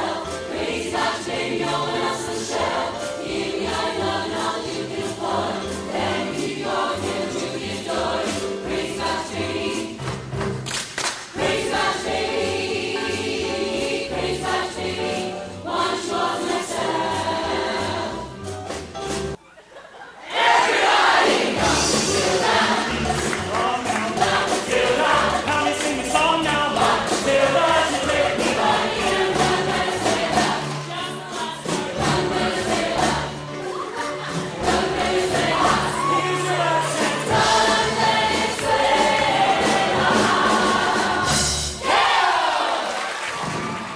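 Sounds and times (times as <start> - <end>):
group singing in harmony: 0.0 - 10.4, 11.3 - 18.6, 20.2 - 43.0
instrumental accompaniment with bass: 0.0 - 19.4, 21.5 - 42.0.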